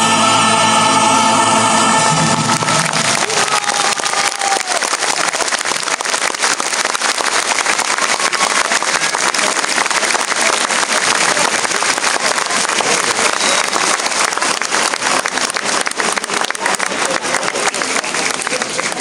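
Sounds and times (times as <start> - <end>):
crowd applauding: 1.9 - 19.0.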